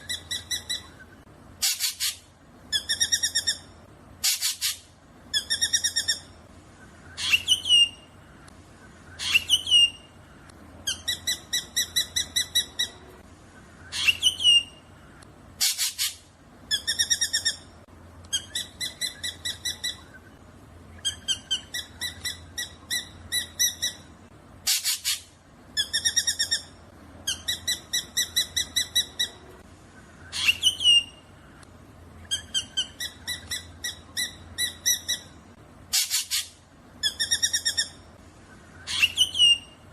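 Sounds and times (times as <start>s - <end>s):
drongo calling: 0.0s - 39.9s
faint low hum: 0.0s - 39.9s.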